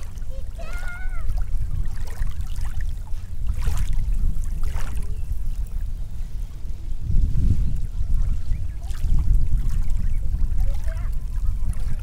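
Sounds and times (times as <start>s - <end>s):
low rumble: 0.0s - 12.0s
seawater washing at shoreline: 0.0s - 12.0s.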